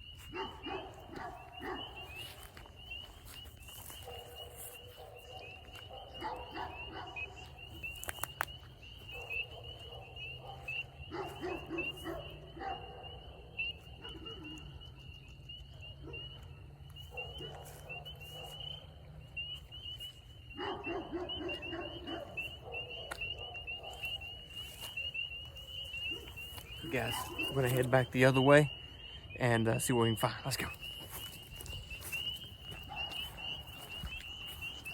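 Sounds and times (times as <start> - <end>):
frogs peeping in chorus: 0.0 - 34.9
lower frog calls: 0.0 - 34.9.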